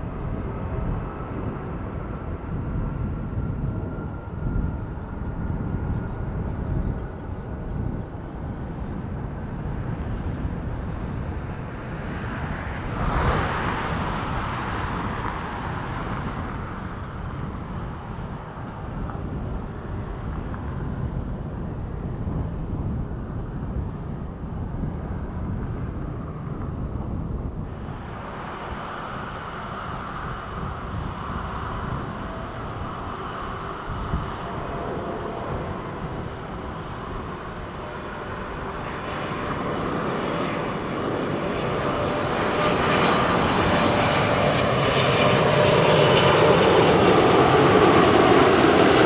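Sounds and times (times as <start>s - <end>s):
jet engines roaring: 8.5s - 49.0s.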